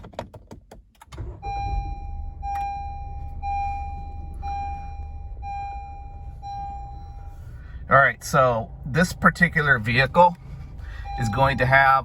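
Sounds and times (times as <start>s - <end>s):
car engine rumbling: 0.0s - 12.0s
dashboard warning chime: 1.2s - 8.6s, 9.5s - 12.0s.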